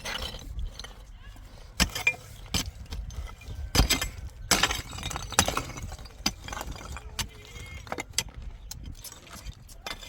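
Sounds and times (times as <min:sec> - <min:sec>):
hard objects knocking and clinking: 0:01.8 - 0:10.0.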